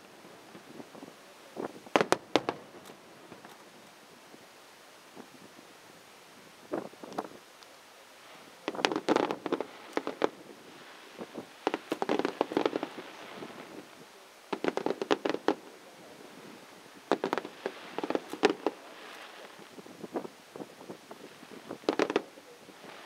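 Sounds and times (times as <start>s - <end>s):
fireworks bangs and crackles: 0.0s - 4.0s, 8.2s - 23.0s.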